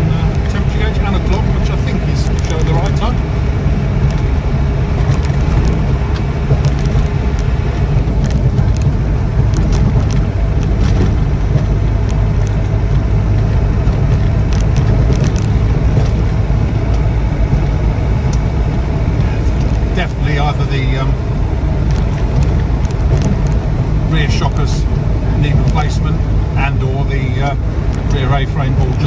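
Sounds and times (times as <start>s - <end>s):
diesel engine running: 0.0s - 29.0s
road noise: 0.0s - 29.0s.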